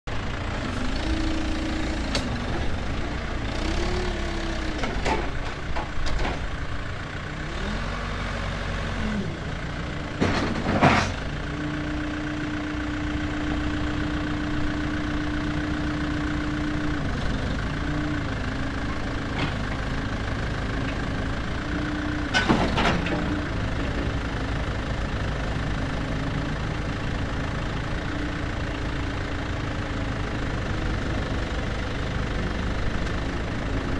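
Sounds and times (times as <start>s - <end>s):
excavator diesel engine working: 0.1s - 33.9s.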